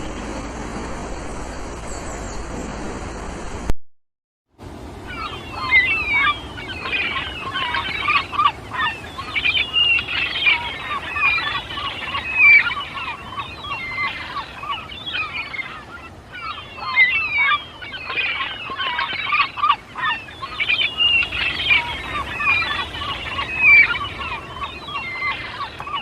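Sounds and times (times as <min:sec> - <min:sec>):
nestling birds chirping and squawking: 0:05.1 - 0:26.0.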